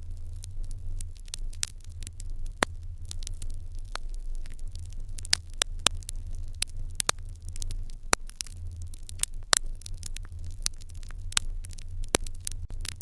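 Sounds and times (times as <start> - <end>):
open fire crackling: 0.0 - 13.0.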